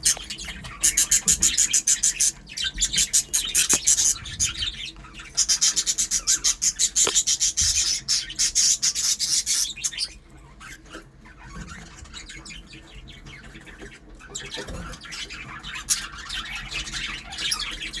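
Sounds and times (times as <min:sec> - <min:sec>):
lovebirds chattering: 0:00.0 - 0:18.0.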